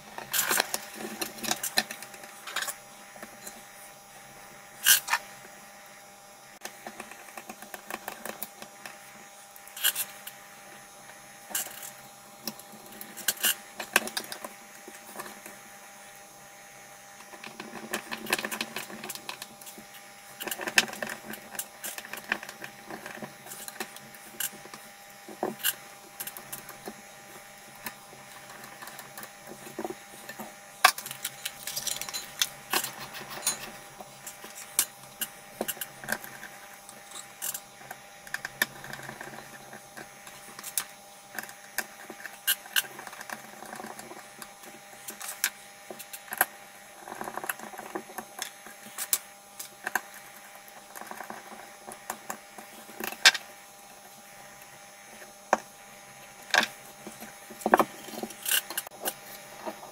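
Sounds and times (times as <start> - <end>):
faint steady hum: 0.0 - 59.9
small parts clicking and tapping: 0.1 - 3.8, 6.6 - 15.6, 17.1 - 59.9.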